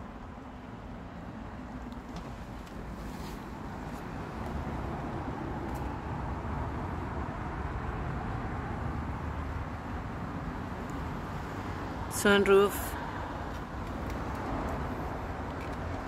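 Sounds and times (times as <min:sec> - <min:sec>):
car cabin rumble and hiss: 0:00.0 - 0:16.0.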